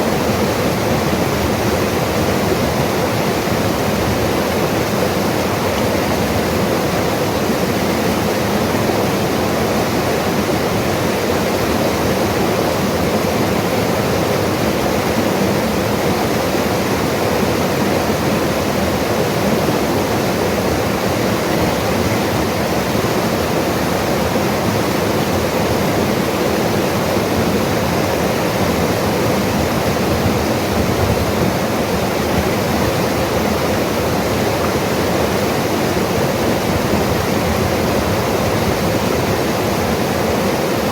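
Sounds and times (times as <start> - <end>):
river rushing over its bed: 0.0 - 40.9.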